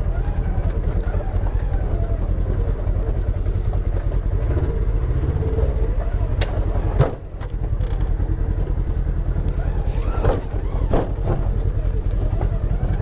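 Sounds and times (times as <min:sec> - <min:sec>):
utv engine rumbling: 0:00.0 - 0:13.0.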